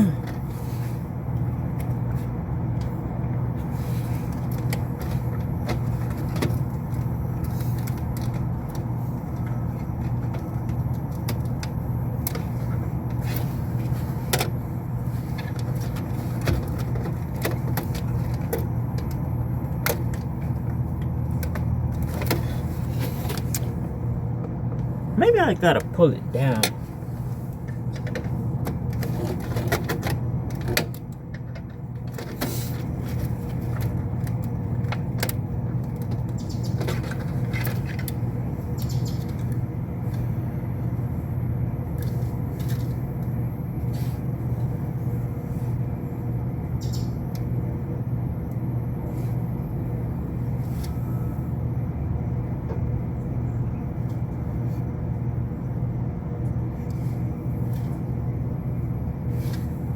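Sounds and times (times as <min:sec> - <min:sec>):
hvac machinery humming: 0:00.0 - 0:59.9.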